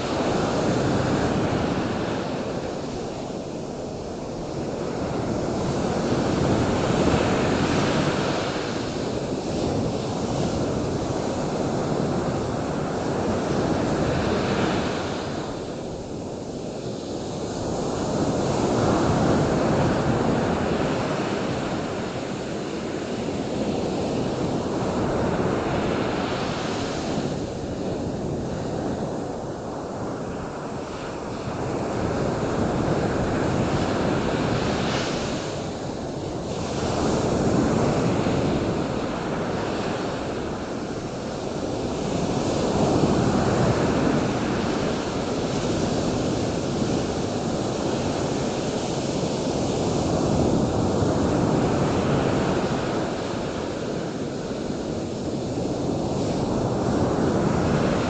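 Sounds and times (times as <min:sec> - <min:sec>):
surf washing ashore: 0:00.0 - 0:58.0.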